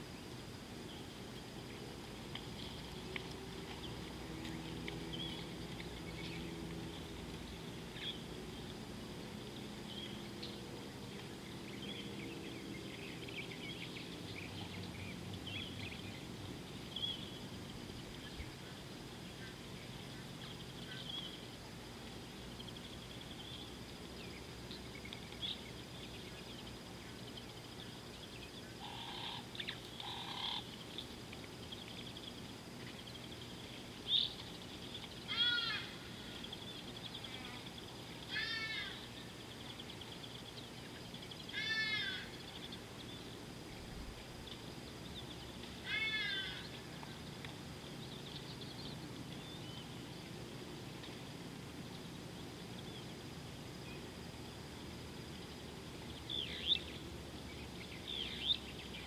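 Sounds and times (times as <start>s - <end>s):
low steady hum: 0.0s - 59.0s
birds chirping: 0.1s - 59.0s.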